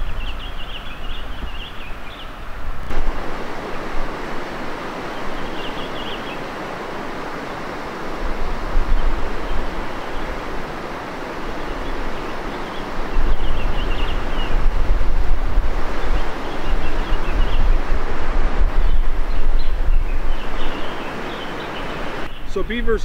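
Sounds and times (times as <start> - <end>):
wind gusts buffeting microphone: 0.0 - 23.0
wind rushing: 2.5 - 22.3.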